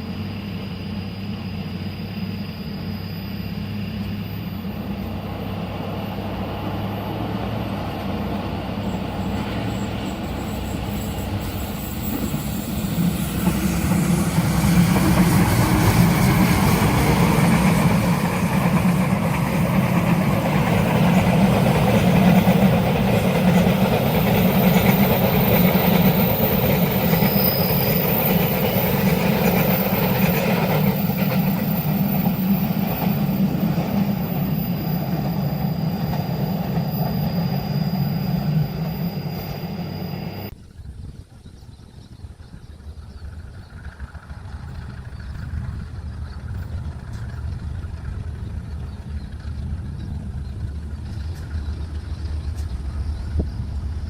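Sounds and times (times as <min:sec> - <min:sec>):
train passing at speed: 0:00.0 - 0:40.6, 0:42.0 - 0:54.0.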